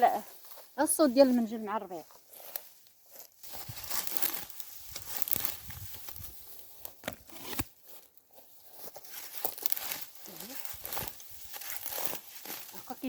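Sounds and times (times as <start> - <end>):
sickle cutting grass: 0.0 - 13.0.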